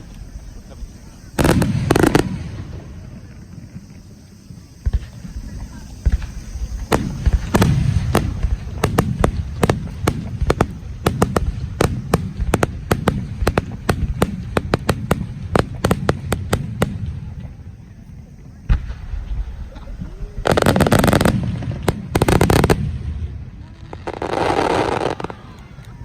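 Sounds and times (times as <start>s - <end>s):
fireworks bangs: 0.0s - 26.0s
low fireworks rumble: 0.0s - 26.0s.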